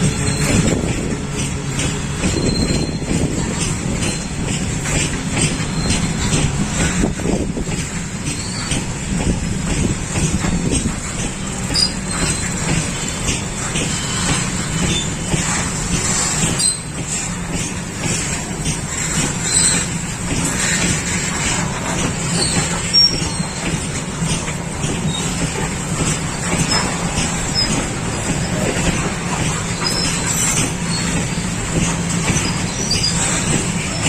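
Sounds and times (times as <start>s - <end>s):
train wagons rumbling on rails: 0.0s - 34.0s.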